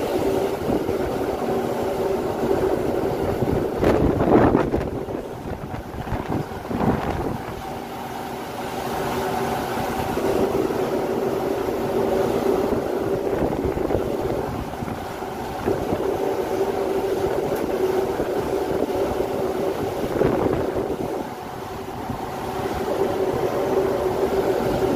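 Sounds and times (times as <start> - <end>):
wind rushing over microphone: 0.0 - 7.8, 10.0 - 24.9
low machinery hum: 0.0 - 24.9
sea washing along hull: 0.0 - 24.9.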